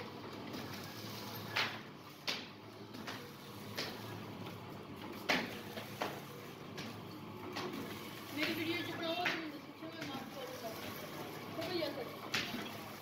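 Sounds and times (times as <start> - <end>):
machine sealing clacks: 0.0 - 13.0
packing machine hum: 0.0 - 13.0.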